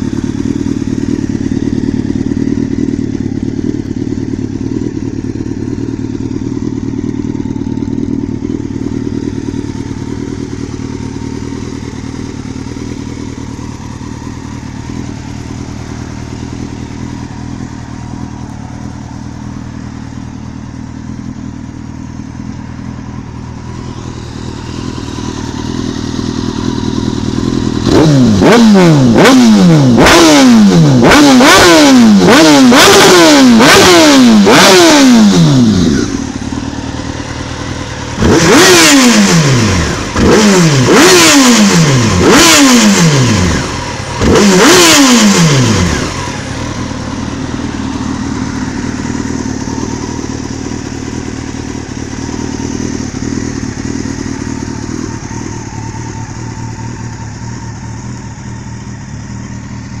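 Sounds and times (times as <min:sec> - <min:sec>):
motorcycle engine idling: 0:00.0 - 1:00.0
motorcycle engine revving: 0:00.0 - 1:00.0.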